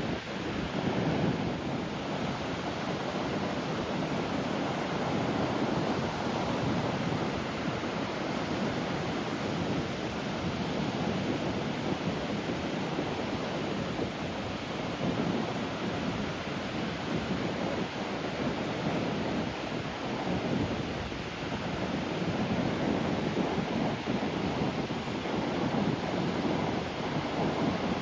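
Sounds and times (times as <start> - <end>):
sea surf breaking on shore: 0.0 - 28.0.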